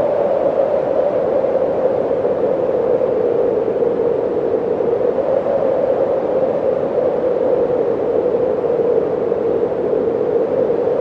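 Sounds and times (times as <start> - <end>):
steady rushing wind: 0.0 - 11.0.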